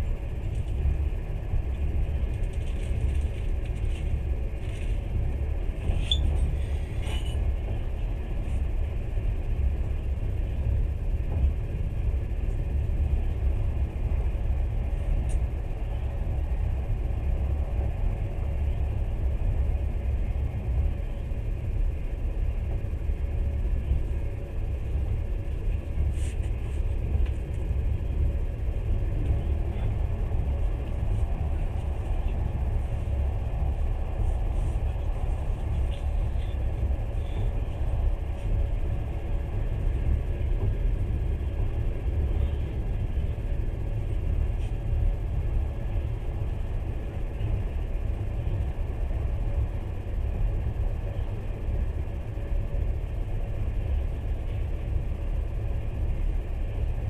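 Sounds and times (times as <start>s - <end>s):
train rumbling on track: 0.0s - 57.0s.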